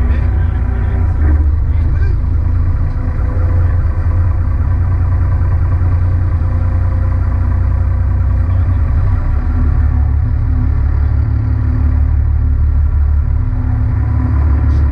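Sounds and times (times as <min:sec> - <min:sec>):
boat engine idling: 0:00.0 - 0:14.9.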